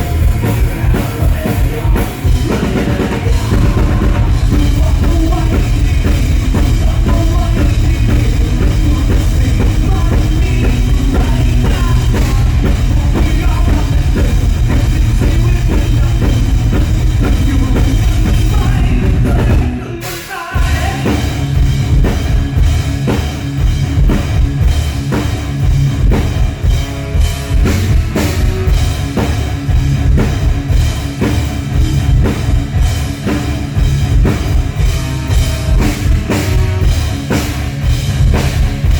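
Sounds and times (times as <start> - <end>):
drum kit: 0.0 - 38.9
rock band playing: 0.0 - 38.9.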